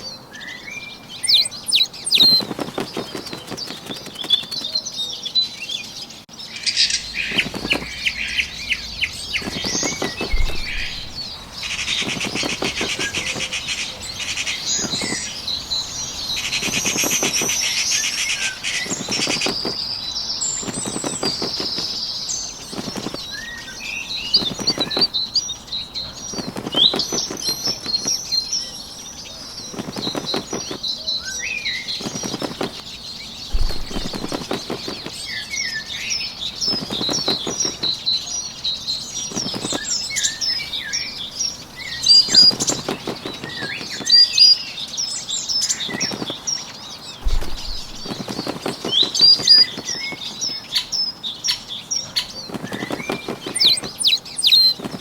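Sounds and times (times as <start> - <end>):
small birds chirping: 0.0 - 55.0
bird wings flapping: 1.2 - 5.0, 6.9 - 38.3, 39.2 - 55.0.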